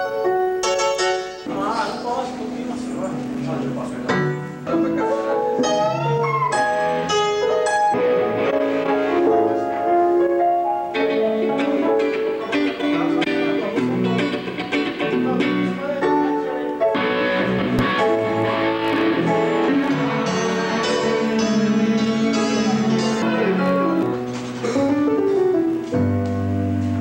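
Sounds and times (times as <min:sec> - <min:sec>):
guitar melody of held notes: 0:00.0 - 0:27.0.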